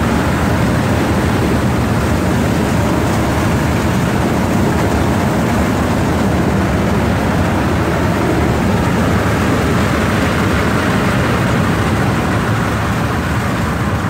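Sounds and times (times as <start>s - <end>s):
low engine hum: 0.0s - 14.0s
threshing machine droning: 0.0s - 14.0s.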